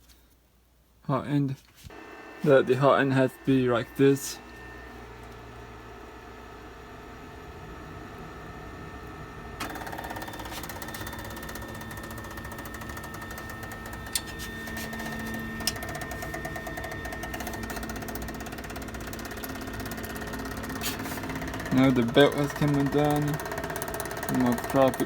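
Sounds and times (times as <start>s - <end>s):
printer stepper motors whining: 1.9s - 25.0s.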